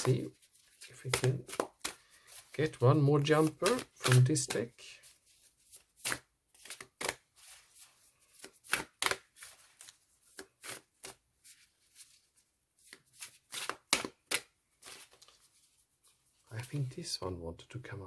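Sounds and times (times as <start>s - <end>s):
cards being shuffled: 0.0s - 16.9s.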